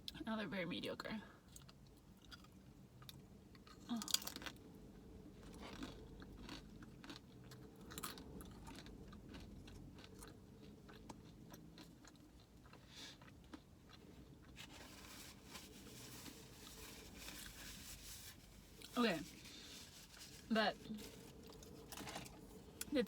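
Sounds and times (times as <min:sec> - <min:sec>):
person chewing and crunching food: 0:01.5 - 0:20.4, 0:21.0 - 0:23.0.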